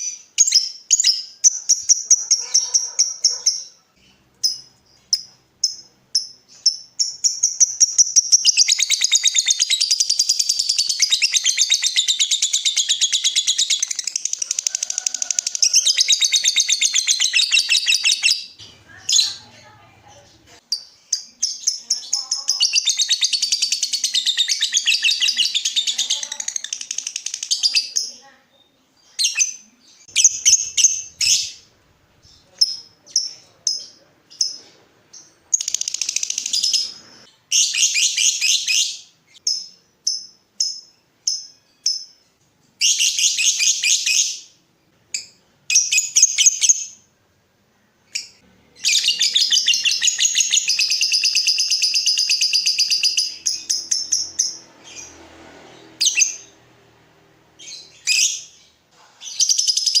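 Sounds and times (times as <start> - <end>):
lovebird chirping and trilling: 0.0 - 47.1, 48.1 - 56.6, 57.6 - 60.0.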